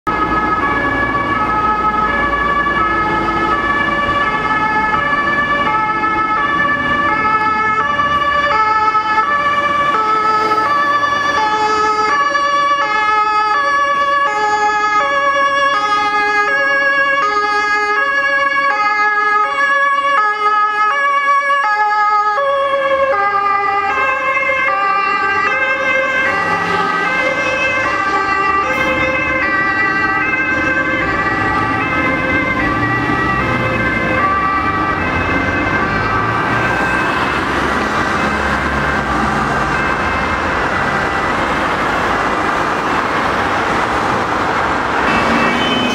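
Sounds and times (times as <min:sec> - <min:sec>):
two-tone emergency sirens: 0:00.1 - 0:45.9.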